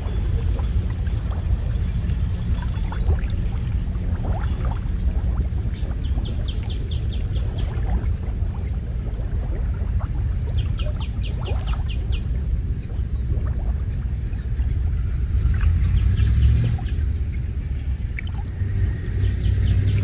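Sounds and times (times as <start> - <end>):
low rumble: 0.0 - 20.0
water sloshing around wader: 0.0 - 20.0.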